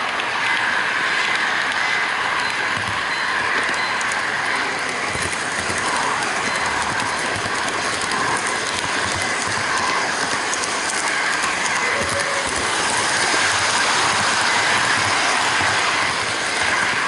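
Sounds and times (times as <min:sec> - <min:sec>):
model train wheels rattling: 0:00.0 - 0:17.0.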